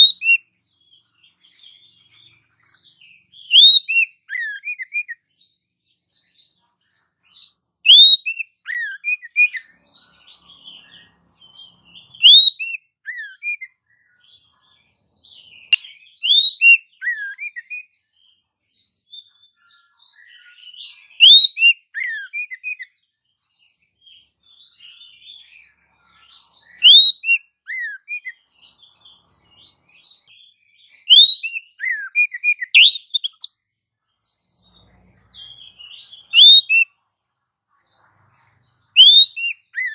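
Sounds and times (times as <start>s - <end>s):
falling whistled birdsong phrase: 0.0s - 5.7s, 7.8s - 14.2s, 15.4s - 23.0s, 23.7s - 33.7s, 34.8s - 37.0s, 38.0s - 39.9s
chatter of high bird chirps: 0.0s - 39.9s.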